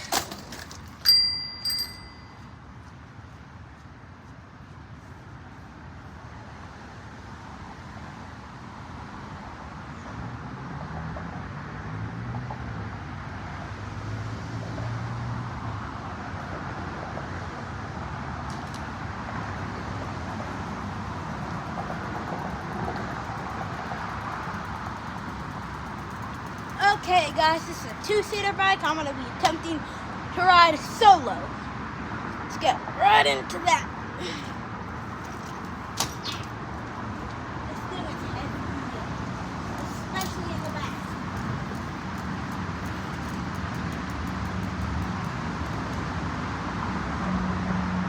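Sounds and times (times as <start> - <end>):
road traffic noise: 0.0 - 48.0
vehicle engine hum passing: 3.3 - 48.0.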